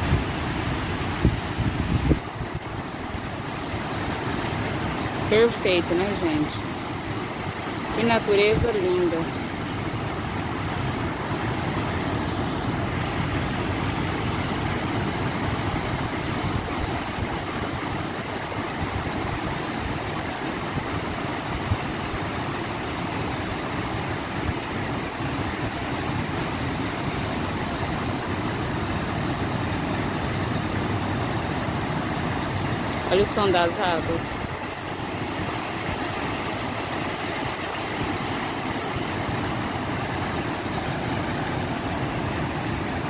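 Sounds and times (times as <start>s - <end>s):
waterfall and rapids rushing: 0.0s - 43.0s.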